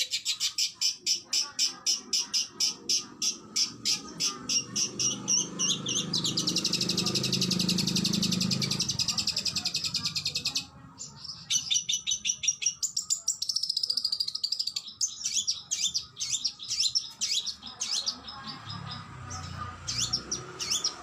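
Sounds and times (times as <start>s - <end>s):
fast dense bird trill: 0.0s - 21.0s.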